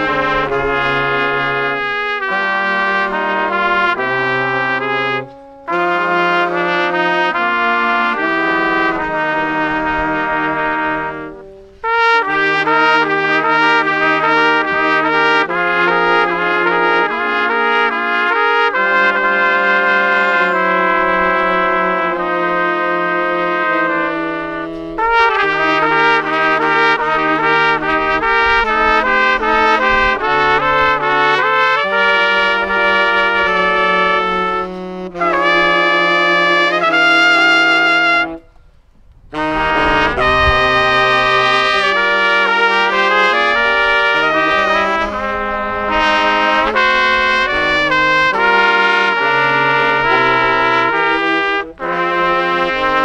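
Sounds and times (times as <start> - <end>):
saxophones and trumpets playing: 0.0 - 53.0.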